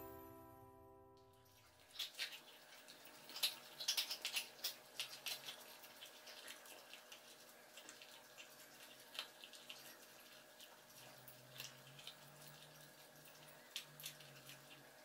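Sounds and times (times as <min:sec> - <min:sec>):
cat licking and chewing: 0:01.4 - 0:15.0.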